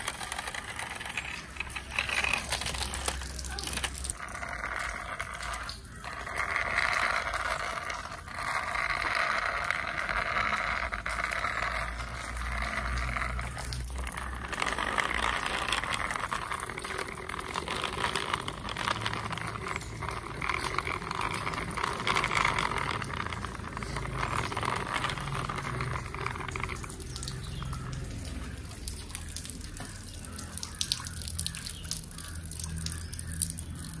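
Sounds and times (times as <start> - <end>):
toy wheels rolling on concrete: 0.0 - 34.0.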